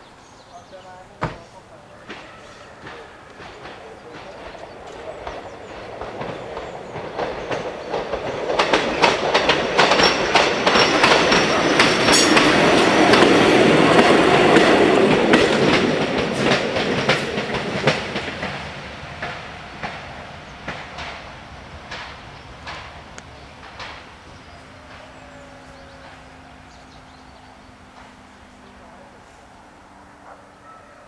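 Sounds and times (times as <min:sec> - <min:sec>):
diesel train passing: 0:00.0 - 0:31.0
wheels clicking over rail joints: 0:01.1 - 0:28.9.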